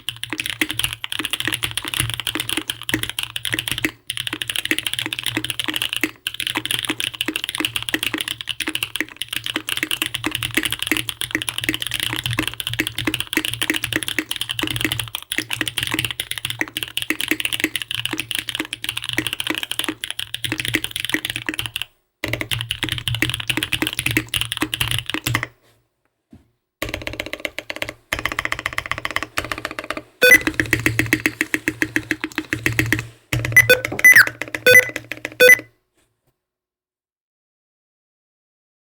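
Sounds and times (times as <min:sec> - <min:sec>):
mechanical keyboard typing: 0:00.0 - 0:25.5, 0:26.8 - 0:35.7.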